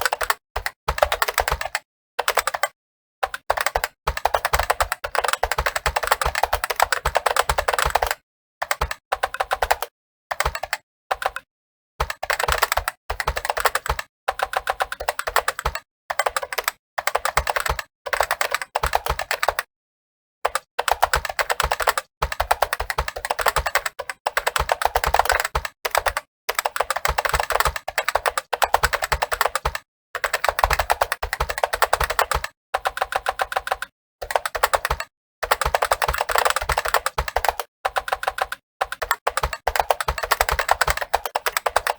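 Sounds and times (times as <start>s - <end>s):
fast typing on keyboard: 0.0s - 19.7s, 20.4s - 41.9s.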